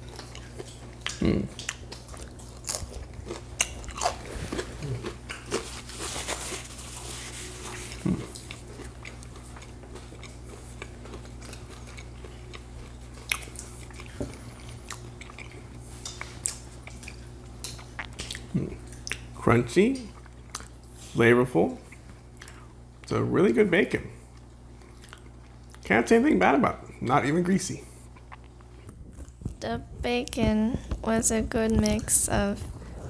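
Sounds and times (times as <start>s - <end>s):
people chewing crunchy bacon: 0.0s - 23.3s, 24.2s - 25.9s, 26.8s - 29.7s.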